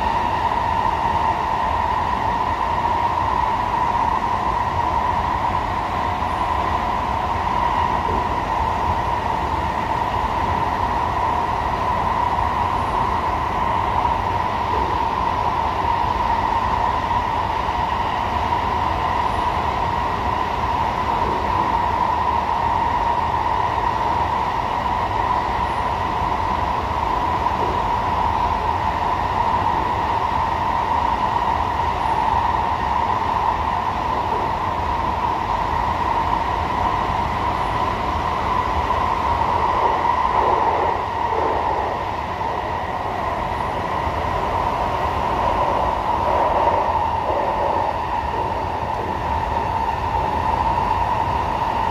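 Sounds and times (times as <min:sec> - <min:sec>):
train wheels rushing on rail: 0:00.0 - 0:51.9.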